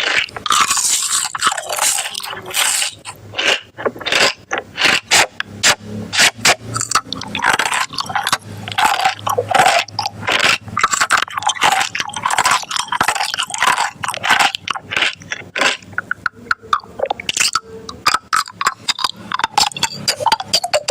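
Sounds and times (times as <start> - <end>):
crunchy food being chewed: 0.0 - 20.9.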